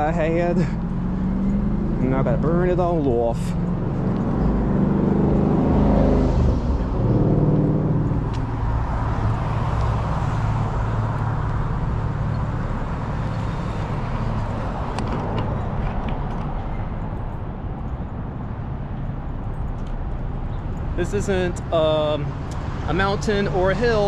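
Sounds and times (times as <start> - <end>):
traffic rumble: 0.0 - 24.0
vehicle passing: 0.0 - 24.0.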